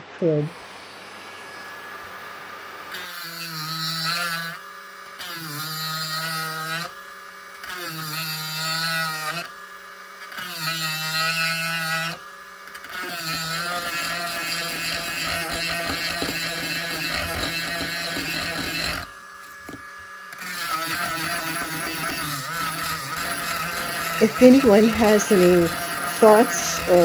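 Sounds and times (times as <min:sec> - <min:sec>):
rotary tool grinding wood: 0:00.6 - 0:27.0.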